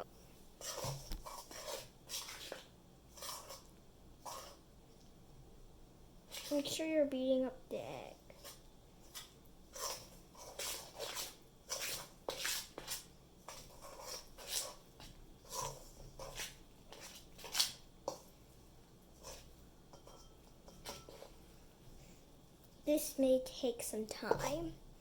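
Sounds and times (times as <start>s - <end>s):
spoon stirring batter in a bowl: 0.0s - 22.8s.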